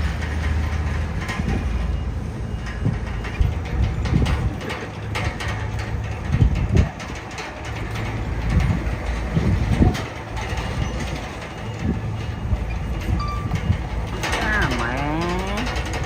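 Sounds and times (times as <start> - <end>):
bulldozer diesel engine running: 0.0 - 16.0
steel tracks clanking: 0.0 - 16.0.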